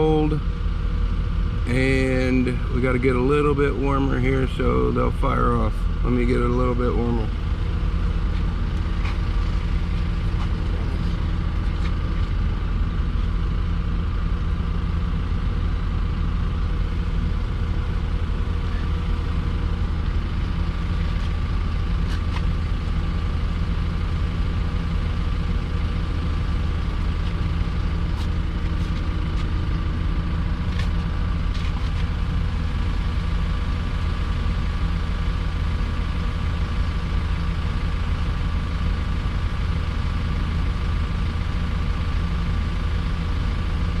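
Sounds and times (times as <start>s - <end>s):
forklift diesel engine running: 0.0s - 44.0s.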